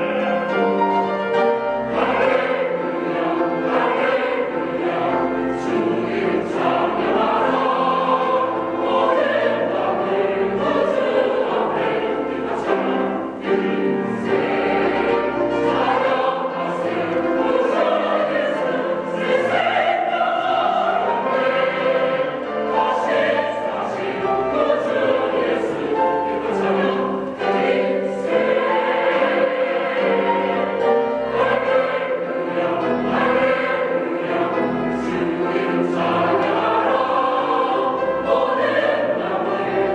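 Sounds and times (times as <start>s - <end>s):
choir singing in harmony: 0.0s - 39.9s
instrumental accompaniment: 0.0s - 39.9s.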